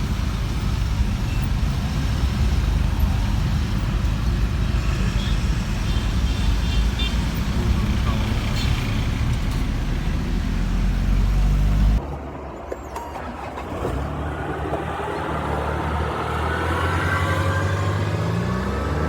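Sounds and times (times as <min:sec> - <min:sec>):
truck engine driving: 0:00.0 - 0:19.0.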